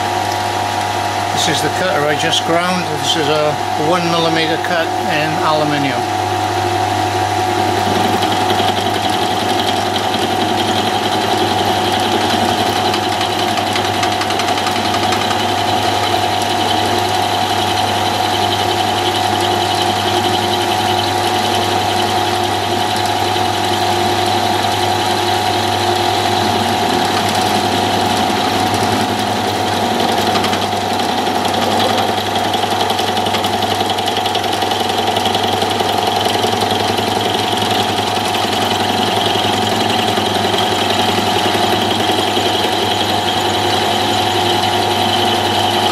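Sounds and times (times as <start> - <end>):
milling machine hum and whine: 0.0 - 45.9.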